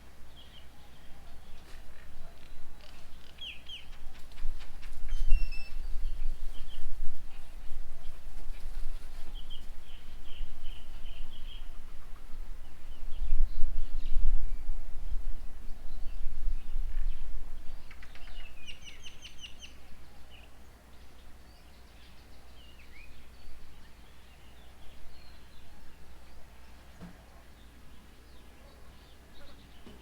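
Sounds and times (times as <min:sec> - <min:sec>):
birds calling and chirping: 0:00.3 - 0:30.0.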